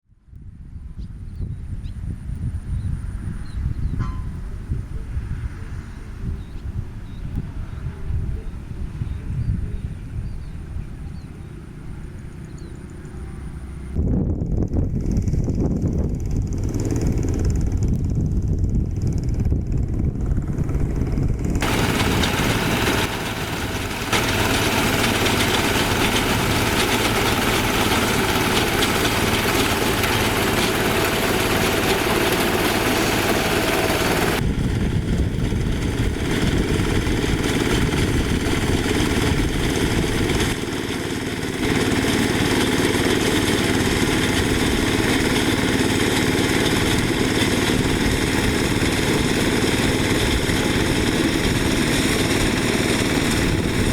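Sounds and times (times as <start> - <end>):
small diesel engine running: 8.2 - 14.0, 14.7 - 53.9.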